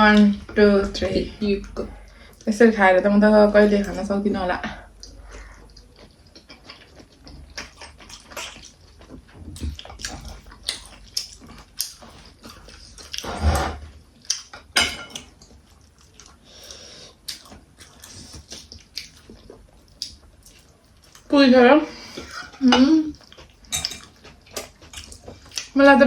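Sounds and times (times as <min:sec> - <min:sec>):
people chewing food: 0:00.0 - 0:26.0.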